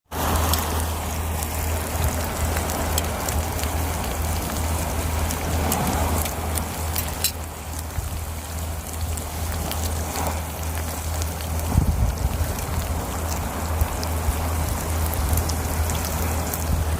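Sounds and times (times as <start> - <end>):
fire pops and crackles: 0.1 - 16.9
low rumble: 0.1 - 16.9
meat sizzling on hot stone: 0.1 - 16.9.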